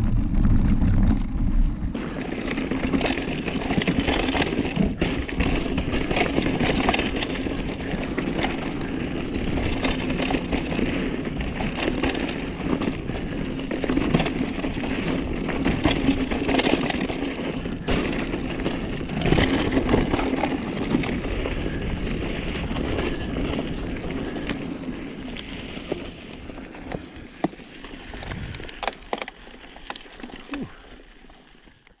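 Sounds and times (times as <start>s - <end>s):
bike rattling and knocking: 0.0s - 32.0s
bike tyres on dirt trail: 0.0s - 32.0s.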